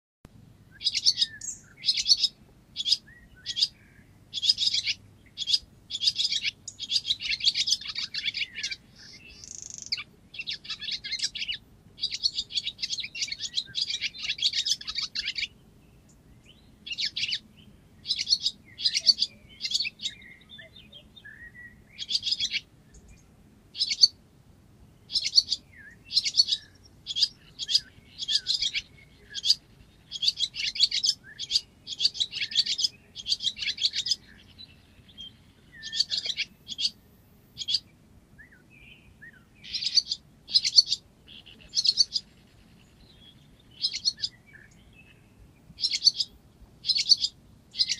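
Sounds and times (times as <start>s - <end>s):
swallow twittering: 0.7s - 15.6s, 16.8s - 17.4s, 18.0s - 23.2s, 23.8s - 24.2s, 25.1s - 37.0s, 37.6s - 37.9s, 39.3s - 44.8s, 45.8s - 47.9s.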